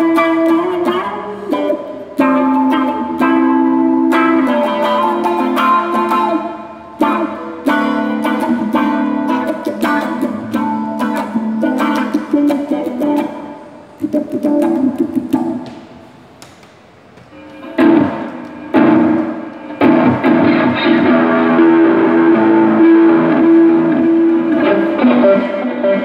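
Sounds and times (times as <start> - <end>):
electric guitar notes and chords: 0.0 - 15.9, 17.3 - 26.0.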